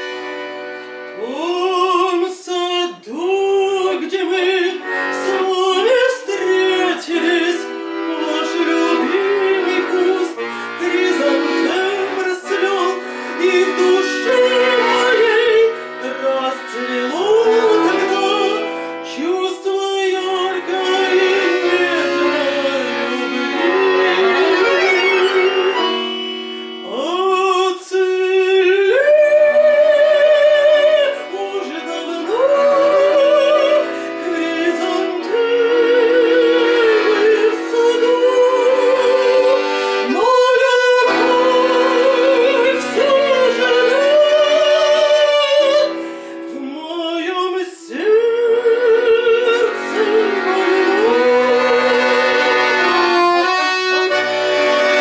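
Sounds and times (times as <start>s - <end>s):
instrumental accompaniment: 0.0s - 47.5s, 48.3s - 55.0s
person singing with vibrato: 0.0s - 55.0s.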